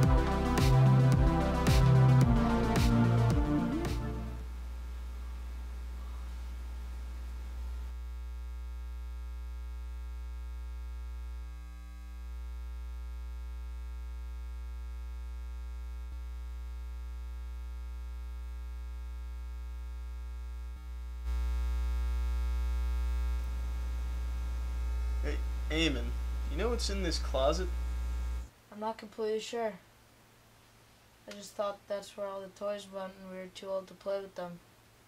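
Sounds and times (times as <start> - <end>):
electrical hum: 0.0 - 33.2.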